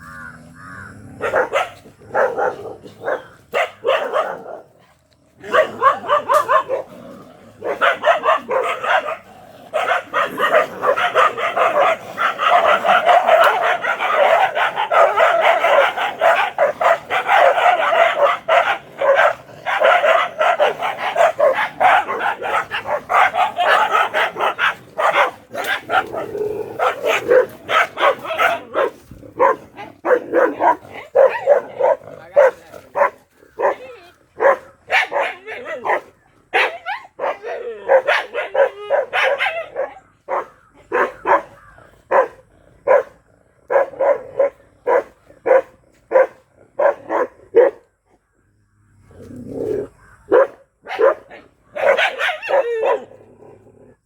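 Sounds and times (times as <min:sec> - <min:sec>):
dog barking: 0:01.2 - 0:47.9, 0:50.3 - 0:53.2.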